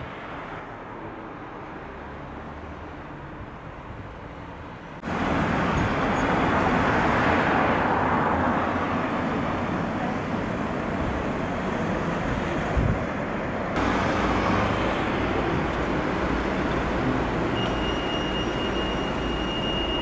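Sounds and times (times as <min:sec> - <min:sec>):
faint street noise: 0:00.0 - 0:20.0.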